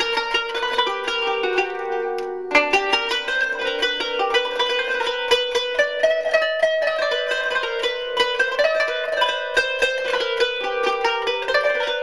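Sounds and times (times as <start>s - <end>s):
plucked string instrument: 0.0s - 12.0s.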